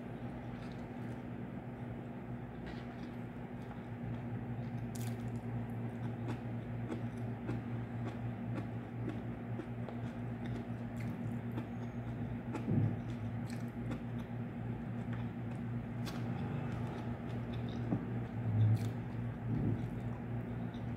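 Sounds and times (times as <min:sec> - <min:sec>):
person chewing food: 0:00.2 - 0:01.3, 0:02.5 - 0:20.9.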